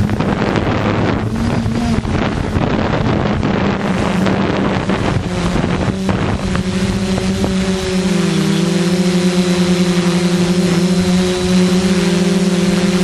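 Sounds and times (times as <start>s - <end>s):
multicopter motors humming: 0.0s - 13.0s
wind buffeting microphone: 0.0s - 13.0s.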